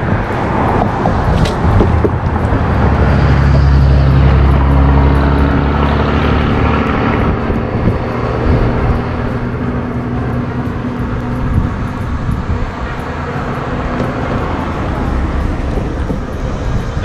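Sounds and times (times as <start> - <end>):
vehicle engine hum passing: 0.0 - 17.0.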